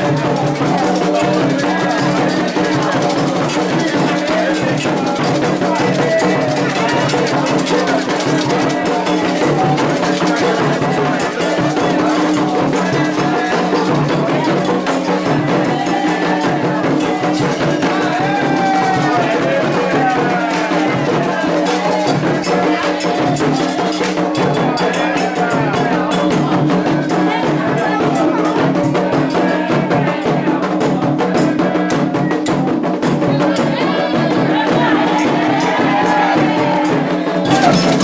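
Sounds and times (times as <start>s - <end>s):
drums and rattles: 0.0s - 38.0s
voices singing a chant: 0.0s - 38.0s.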